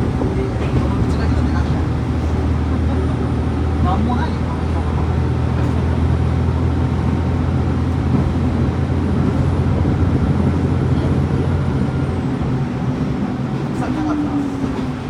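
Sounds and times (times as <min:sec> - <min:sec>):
diesel railcar engine droning: 0:00.0 - 0:15.0.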